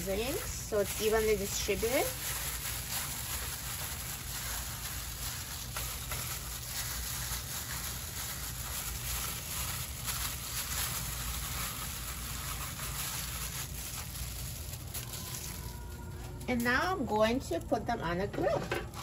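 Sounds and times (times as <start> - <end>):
plastic glove crinkling: 0.0 - 19.0
wet squishing of raw chicken: 0.4 - 16.4.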